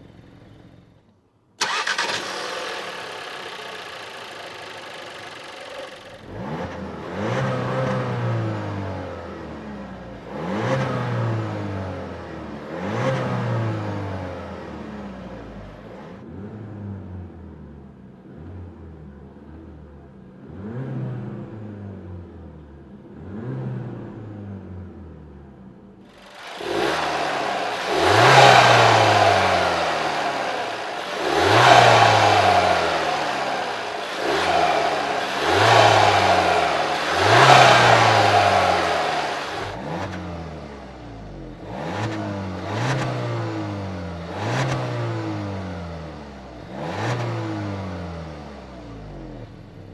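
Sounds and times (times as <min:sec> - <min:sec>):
car engine accelerating: 0:01.6 - 0:49.9.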